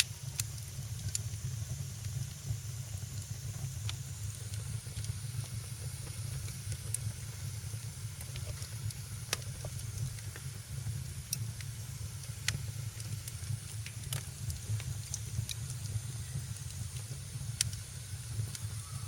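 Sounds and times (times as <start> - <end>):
soft hiss: 0.0 - 19.0
wood fire crackling: 0.0 - 19.0.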